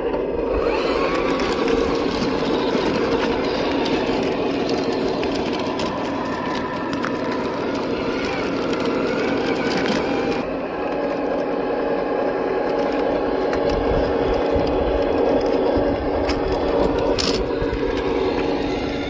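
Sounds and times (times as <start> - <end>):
simulated diesel engine sound: 0.0 - 19.0
tyres crunching over gravel: 0.4 - 19.0.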